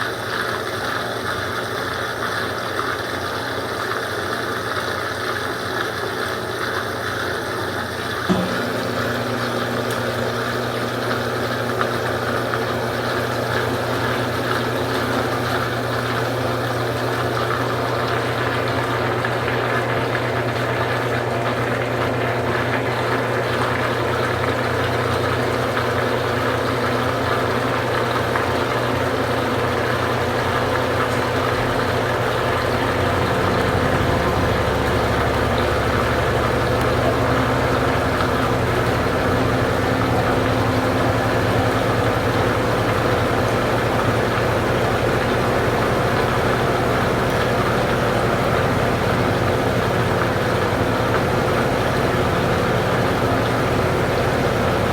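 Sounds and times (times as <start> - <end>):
washing machine humming: 0.0 - 54.9.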